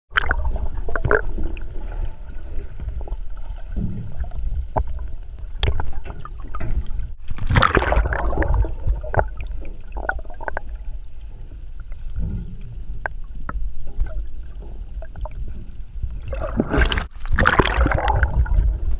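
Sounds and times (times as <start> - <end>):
sea water sloshing and gurgling: 0.1 - 18.9
water splashes: 0.1 - 18.9
low rumble: 0.2 - 18.9.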